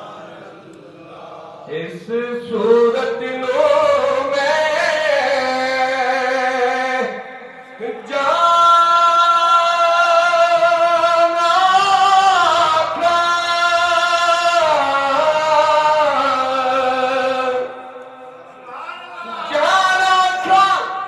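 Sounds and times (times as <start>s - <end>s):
man singing into microphone: 1.2s - 21.0s.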